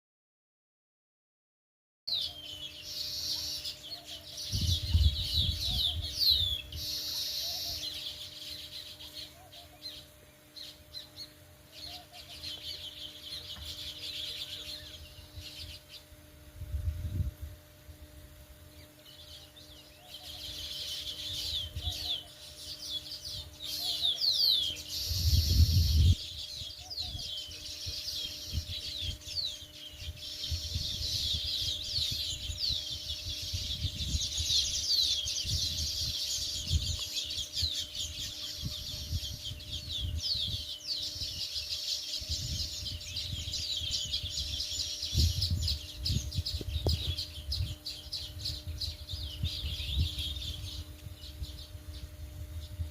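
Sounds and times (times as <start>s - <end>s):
sparrows chirping: 2.1s - 52.9s.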